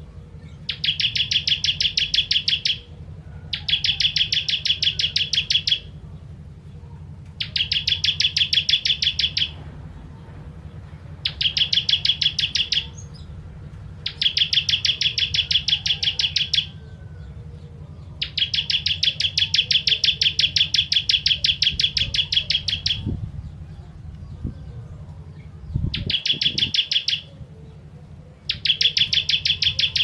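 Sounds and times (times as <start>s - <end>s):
bird rapid trill: 0.0s - 6.0s, 7.4s - 9.6s, 11.2s - 23.6s, 24.7s - 27.5s, 28.3s - 30.0s
steady low hum: 0.0s - 30.0s.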